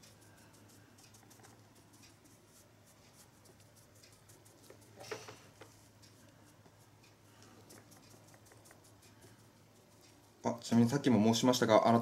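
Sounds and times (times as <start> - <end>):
brush patting and ticking: 0.0 - 12.0.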